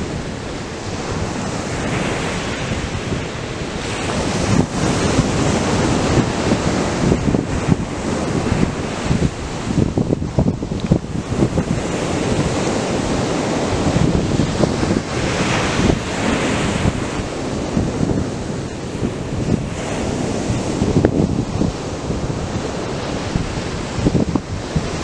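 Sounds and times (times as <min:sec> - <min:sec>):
surf breaking on sandy beach: 0:00.0 - 0:25.0.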